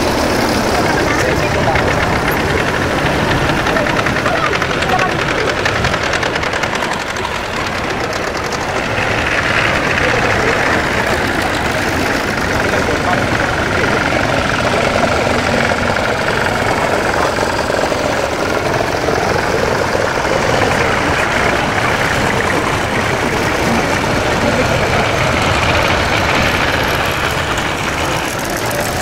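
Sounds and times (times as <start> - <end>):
tractor engines running: 0.0 - 29.0.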